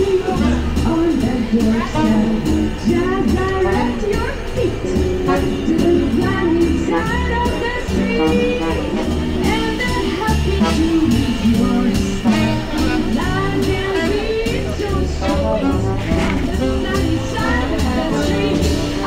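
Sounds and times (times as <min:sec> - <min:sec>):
jazz music: 0:00.0 - 0:19.0
steady bass line: 0:00.0 - 0:19.0.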